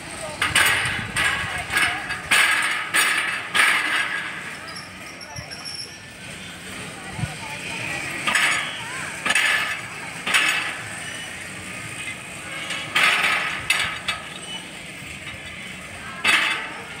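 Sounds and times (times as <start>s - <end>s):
metal discs rolling on rails: 0.0s - 17.0s
sharp metallic clanks: 0.4s - 6.1s, 8.0s - 17.0s.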